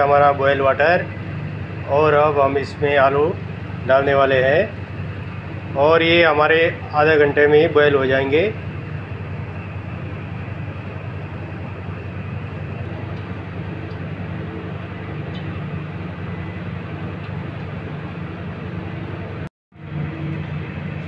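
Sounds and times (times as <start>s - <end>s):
gas burner rumble and hiss: 0.0s - 21.0s.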